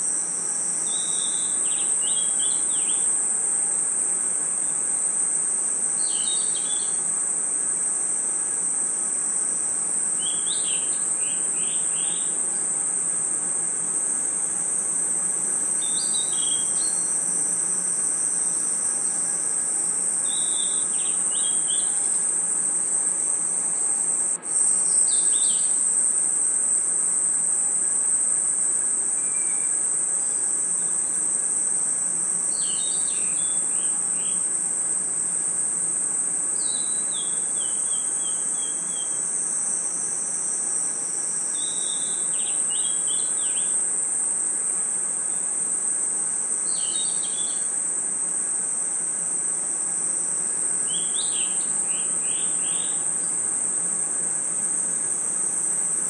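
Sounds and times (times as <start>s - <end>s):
crickets and insects chirring: 0.0s - 56.0s.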